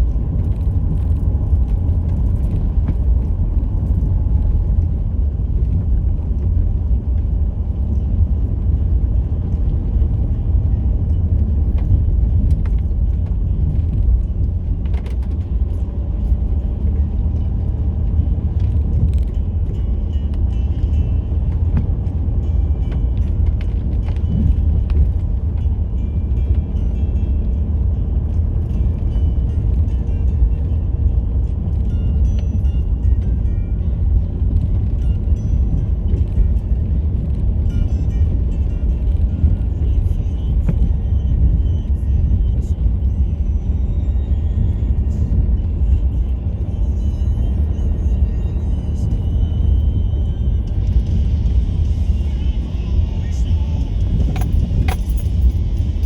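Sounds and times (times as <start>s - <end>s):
diesel engine rumble: 0.0s - 56.0s.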